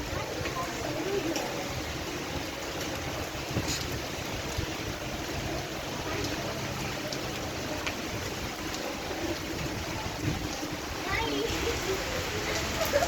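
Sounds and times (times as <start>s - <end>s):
heavy rain hissing: 0.0s - 13.0s
raindrops clicking: 2.5s - 13.0s.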